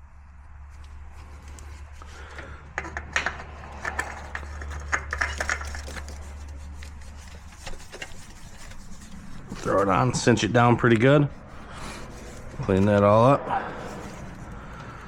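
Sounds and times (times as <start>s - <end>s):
steady low hum: 0.0s - 15.0s
clicks and rubbing of handling: 0.6s - 15.0s.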